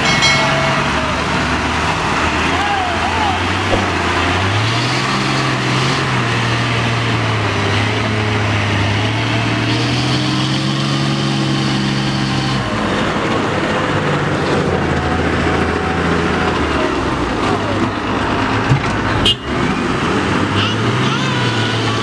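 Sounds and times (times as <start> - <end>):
heavy diesel engines labouring: 0.0 - 22.0.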